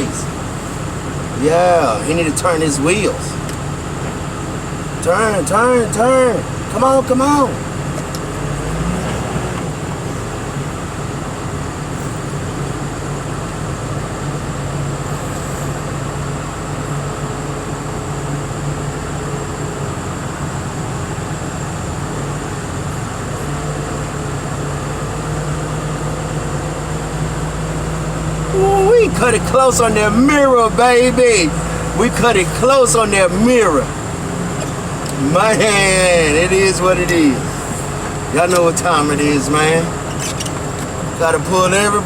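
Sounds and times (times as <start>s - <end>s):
truck engine droning: 0.0s - 42.0s.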